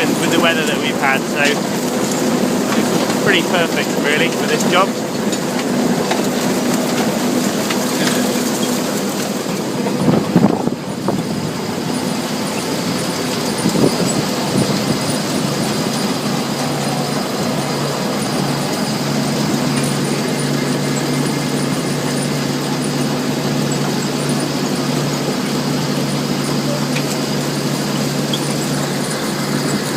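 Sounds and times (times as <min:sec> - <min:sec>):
harvester rollers and belts: 0:00.0 - 0:29.9
tractor engine hum: 0:00.0 - 0:29.9.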